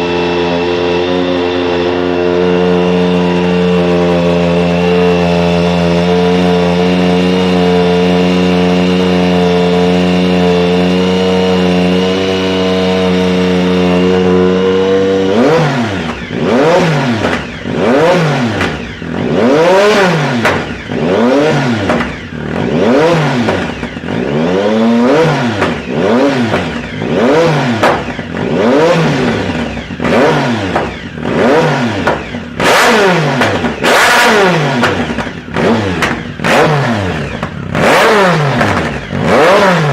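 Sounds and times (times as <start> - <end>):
exhaust popping: 0.0 - 39.9
motorcycle engine revving: 0.0 - 39.9.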